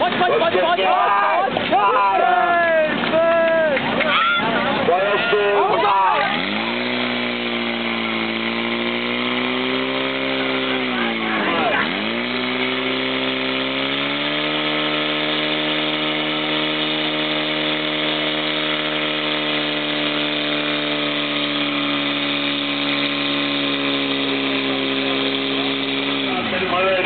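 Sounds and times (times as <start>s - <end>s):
pump engine at high revs: 0.0s - 27.0s.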